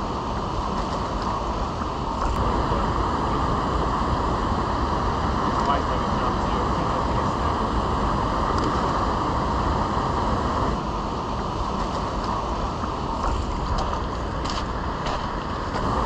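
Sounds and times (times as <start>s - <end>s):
river current rushing: 0.0s - 16.0s
wind buffeting microphone: 0.0s - 16.0s.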